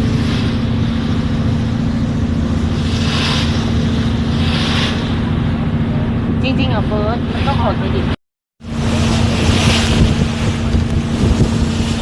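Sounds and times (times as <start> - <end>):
boat engine droning: 0.0 - 12.0
rushing water and wind: 0.0 - 12.0.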